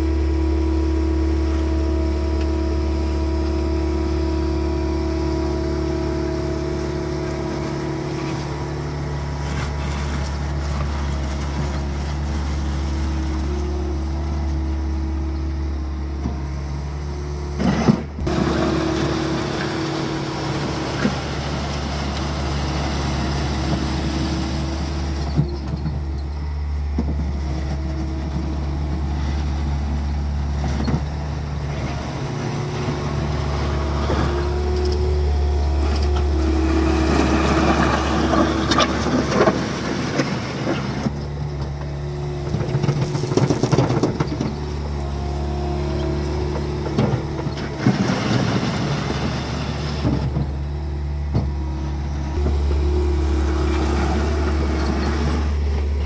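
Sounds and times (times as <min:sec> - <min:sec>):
diesel engine running: 0:00.0 - 0:56.0
bucket grading loose gravel: 0:05.3 - 0:15.0, 0:17.5 - 0:56.0.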